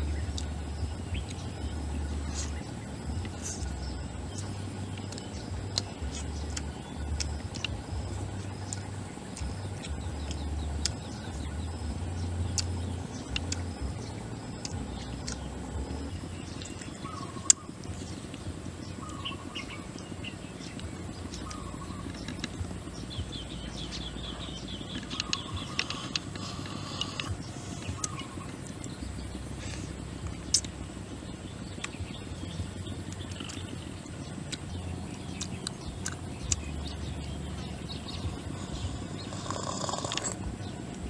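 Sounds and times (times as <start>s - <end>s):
birds chirping: 0.0s - 41.0s
low rumble: 0.0s - 41.0s.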